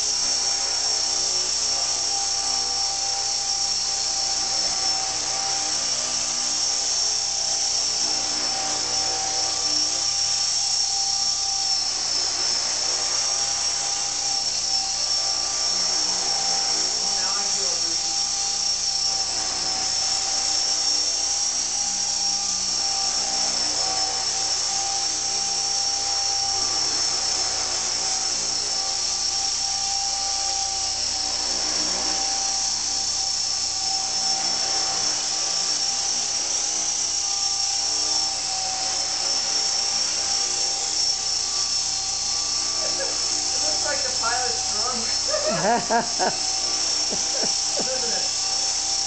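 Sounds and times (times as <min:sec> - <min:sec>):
rc helicopter motor whine: 0:00.0 - 0:49.0
rotor hum: 0:00.0 - 0:49.0.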